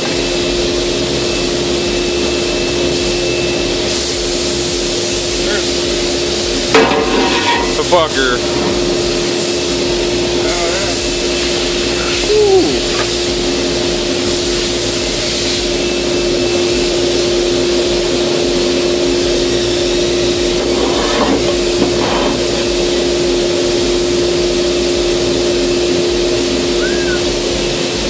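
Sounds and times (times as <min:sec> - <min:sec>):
broad hiss: 0:00.0 - 0:28.0
heavy machinery humming: 0:00.0 - 0:28.0.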